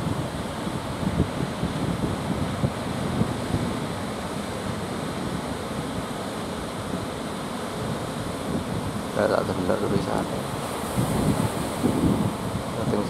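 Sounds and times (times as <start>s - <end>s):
sea surf breaking: 0.0s - 13.0s
wind rumbling on microphone: 0.0s - 13.0s.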